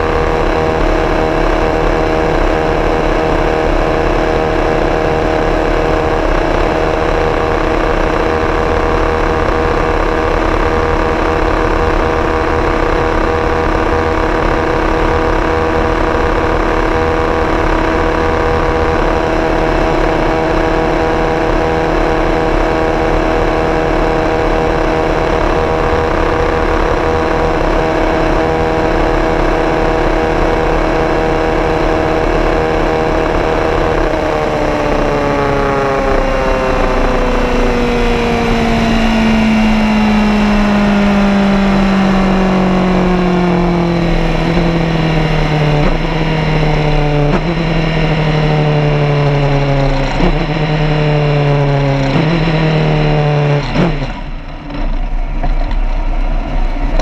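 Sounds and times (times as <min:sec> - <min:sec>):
race car engine at speed: 0:00.0 - 0:57.0.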